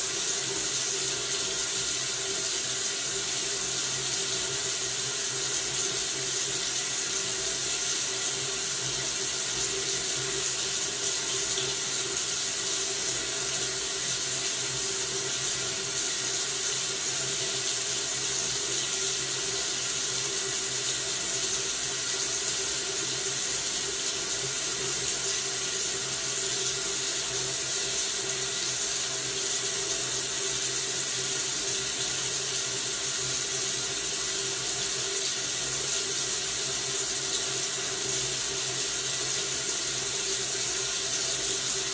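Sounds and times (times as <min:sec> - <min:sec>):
tap water running into a sink: 0:00.0 - 0:41.9.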